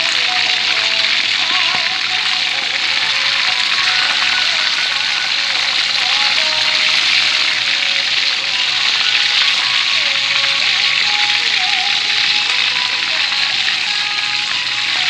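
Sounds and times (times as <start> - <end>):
faint music: 0.0 - 15.0
oil sizzling while deep-frying: 0.0 - 15.0.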